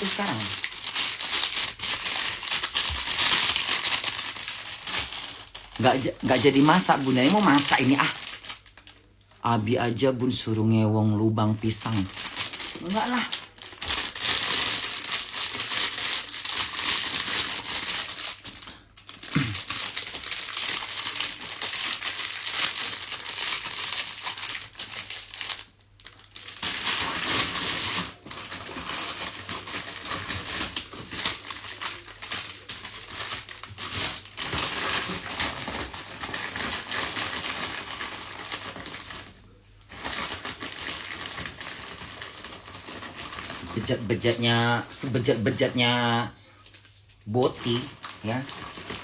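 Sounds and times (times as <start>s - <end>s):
packaging crinkling: 0.0s - 49.0s.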